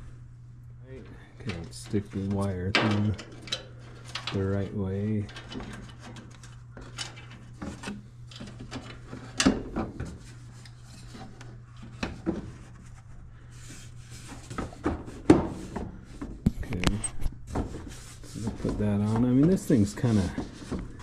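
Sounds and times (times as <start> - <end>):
steady low hum: 0.0 - 21.0
hands rubbing and scraping parts: 1.0 - 21.0.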